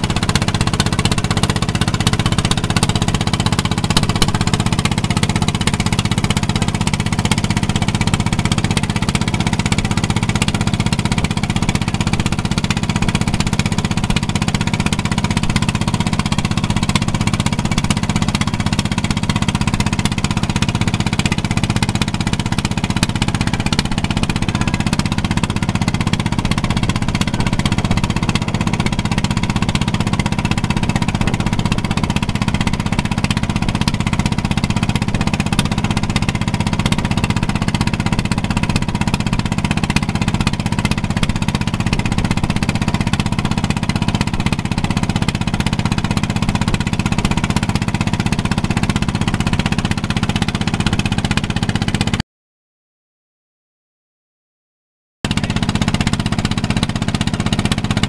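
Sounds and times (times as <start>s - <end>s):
boat engine running: 0.0s - 52.2s, 55.2s - 58.0s.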